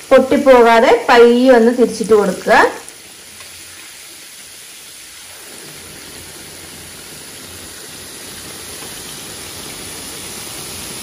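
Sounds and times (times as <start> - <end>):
oil sizzling while deep-frying: 0.0 - 11.0.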